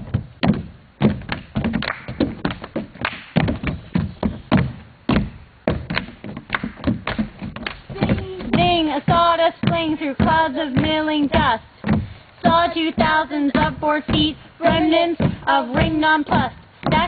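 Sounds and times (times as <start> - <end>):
feet stamping and tapping on floor: 0.0 - 17.0.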